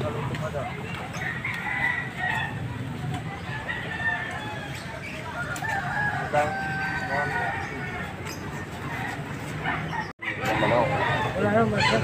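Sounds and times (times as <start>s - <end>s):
roosters crowing: 0.9s - 12.0s.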